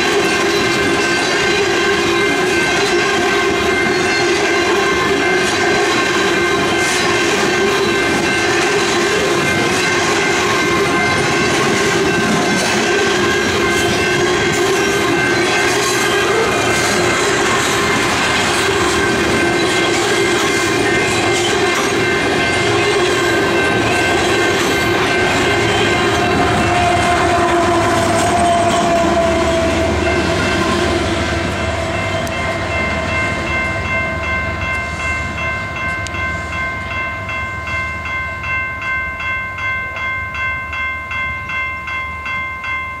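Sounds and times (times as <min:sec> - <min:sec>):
crossing bell ringing: 0:00.0 - 0:43.0
train wheels on rails: 0:00.0 - 0:43.0.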